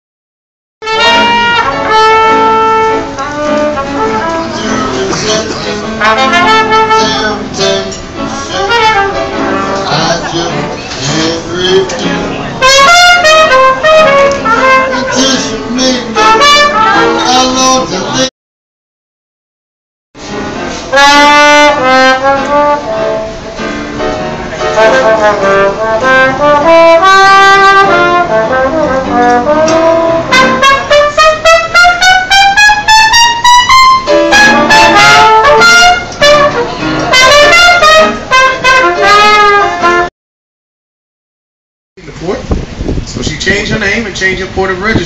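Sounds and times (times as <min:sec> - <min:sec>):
piano: 0:00.8 - 0:18.3, 0:20.2 - 0:40.1
small jazz band playing: 0:00.8 - 0:18.3, 0:20.2 - 0:40.1
trombone: 0:00.8 - 0:18.3, 0:20.2 - 0:40.1
trumpet: 0:00.8 - 0:18.3, 0:20.2 - 0:40.1.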